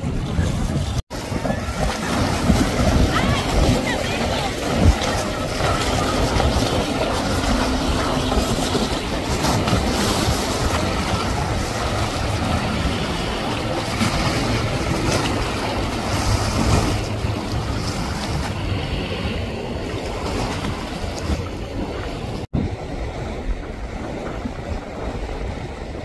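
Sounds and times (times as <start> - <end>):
outboard motor rumble: 0.0 - 26.0
spray and waves rushing: 0.0 - 26.0.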